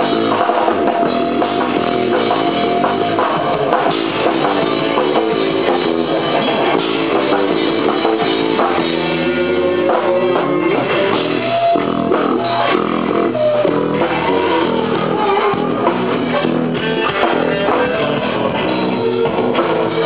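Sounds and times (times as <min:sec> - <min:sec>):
drum kit: 0:00.0 - 0:20.0
electric guitar: 0:00.0 - 0:20.0.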